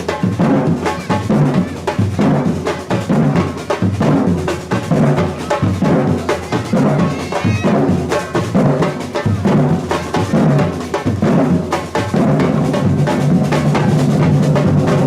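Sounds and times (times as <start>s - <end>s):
samba drum group playing: 0.0s - 15.0s.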